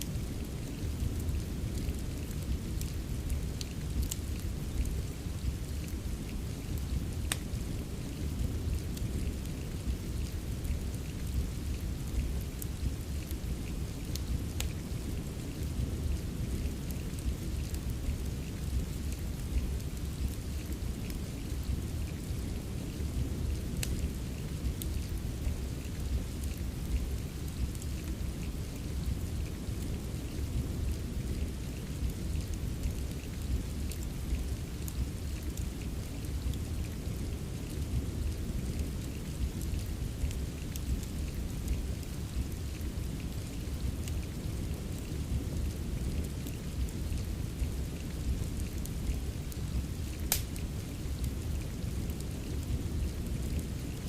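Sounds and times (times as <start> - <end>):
steady rain: 0.0 - 54.0
wood fire crackles: 0.0 - 54.0.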